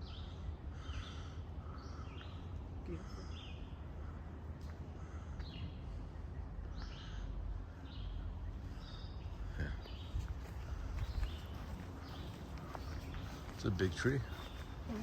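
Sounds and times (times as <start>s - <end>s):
songbirds chirping: 0.0s - 15.0s
steady low rumble: 0.0s - 15.0s.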